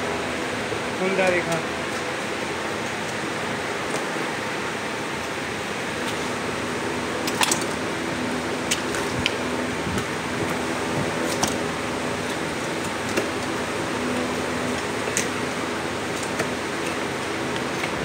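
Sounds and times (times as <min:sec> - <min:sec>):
steady fan-like hiss: 0:00.0 - 0:18.0.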